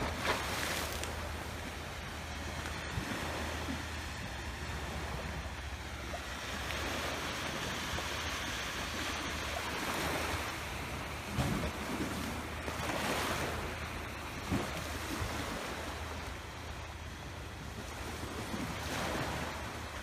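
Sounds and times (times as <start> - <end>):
waves washing against rocks: 0.0 - 20.0
wind rumbling on microphone: 0.0 - 20.0.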